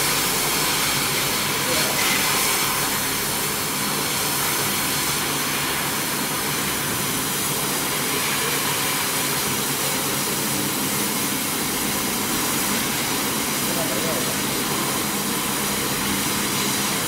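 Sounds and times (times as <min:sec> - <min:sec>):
rushing hiss of air: 0:00.0 - 0:17.0.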